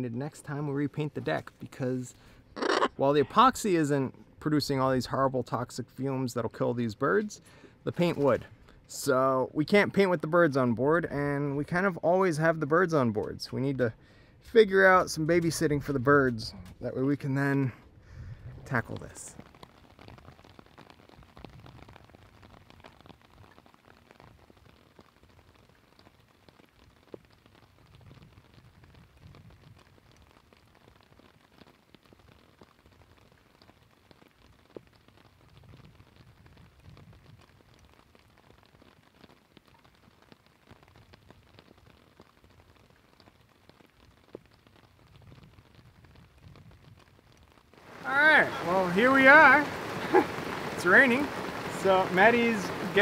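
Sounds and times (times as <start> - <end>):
raindrops ticking: 0.0 - 18.0, 18.6 - 53.0
faint steady rain: 0.0 - 53.0.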